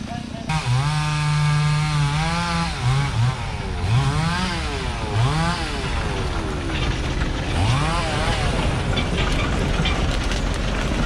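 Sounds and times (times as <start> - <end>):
engine revving: 0.4 - 9.8.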